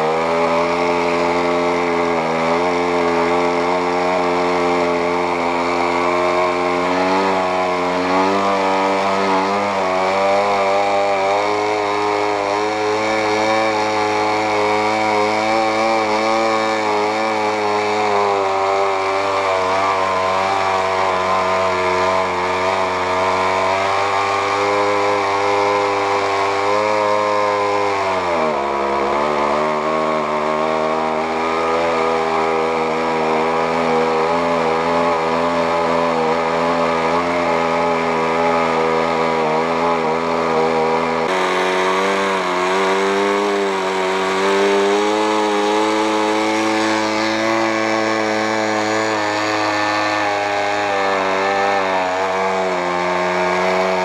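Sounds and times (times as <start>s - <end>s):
model engine buzzing: 0.0s - 54.0s.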